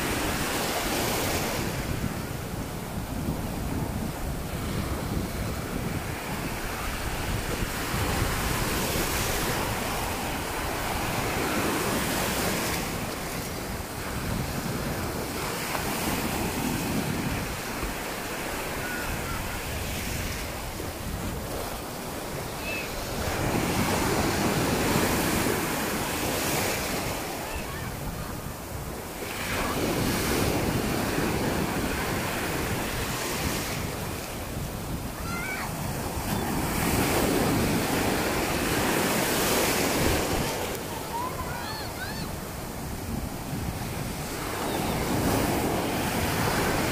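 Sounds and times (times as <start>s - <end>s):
sea surf breaking: 0.0s - 46.9s
wind buffeting microphone: 0.0s - 46.9s.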